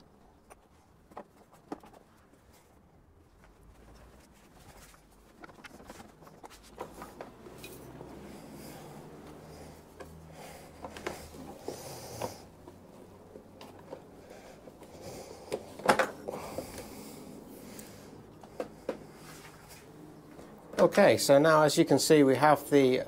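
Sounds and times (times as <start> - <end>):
hands rustling: 0.5 - 20.9.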